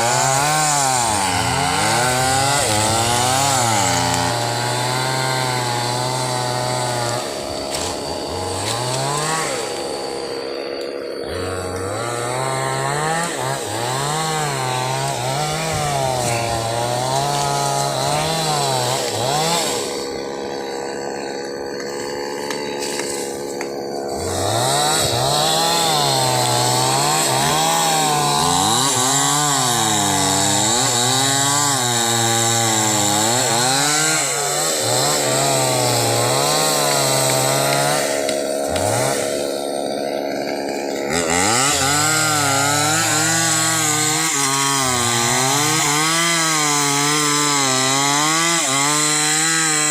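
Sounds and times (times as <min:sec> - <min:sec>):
chainsaw cutting timber: 0:00.0 - 0:49.9.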